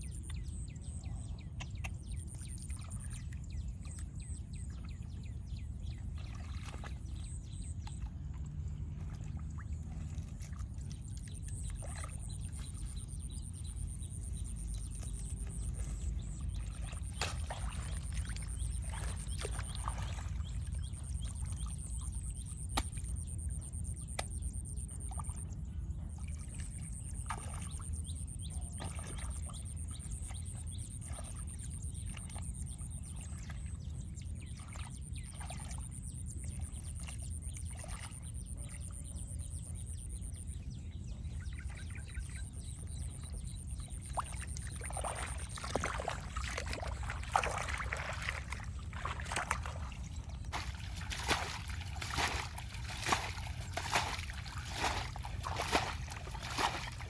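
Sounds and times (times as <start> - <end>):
steady low rumble: 0.0 - 57.0
water sloshing and trickling: 0.0 - 57.0
small water splashes: 1.4 - 40.5, 41.3 - 57.0.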